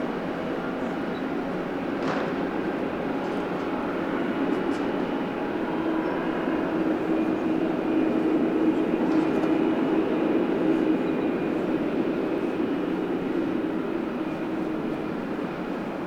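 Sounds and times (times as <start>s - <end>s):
jet engines at takeoff power: 0.0s - 16.0s.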